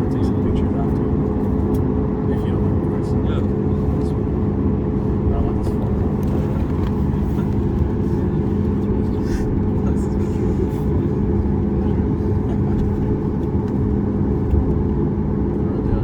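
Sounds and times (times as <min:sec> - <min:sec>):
jet engines idling: 0:00.0 - 0:16.0
low rumble with two-note hum: 0:00.0 - 0:16.0.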